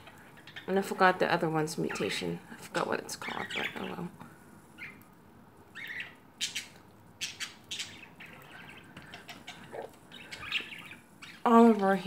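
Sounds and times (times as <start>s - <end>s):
budgerigars chirping and squawking: 0.0s - 4.1s, 4.8s - 5.0s, 5.7s - 11.5s.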